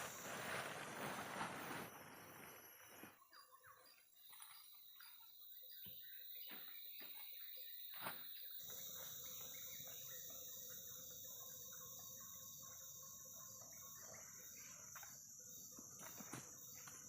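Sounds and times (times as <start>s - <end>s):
insects droning: 0.0s - 17.0s
bird chirps: 2.0s - 17.0s.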